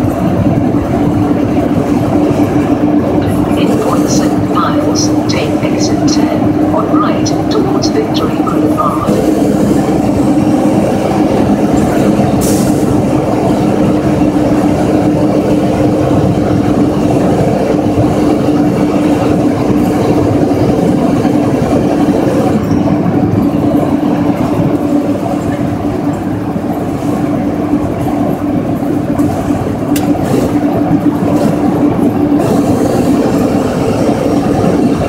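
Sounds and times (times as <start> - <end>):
truck engine drone in cab: 0.0 - 35.0.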